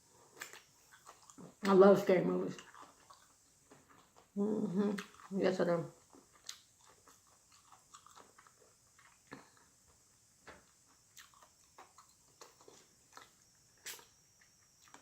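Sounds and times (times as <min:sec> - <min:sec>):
person chewing: 0:00.1 - 0:01.8, 0:02.5 - 0:05.4, 0:06.0 - 0:15.0.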